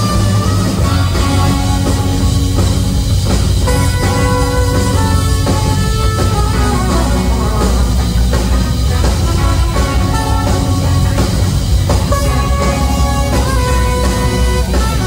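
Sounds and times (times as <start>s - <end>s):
trumpet: 0.0s - 2.9s, 3.6s - 15.0s
live rock band playing: 0.0s - 15.0s.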